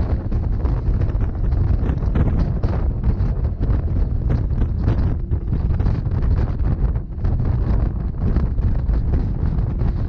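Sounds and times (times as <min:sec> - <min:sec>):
passenger train rumbling: 0:00.0 - 0:10.0
wind buffeting microphone: 0:00.0 - 0:10.0.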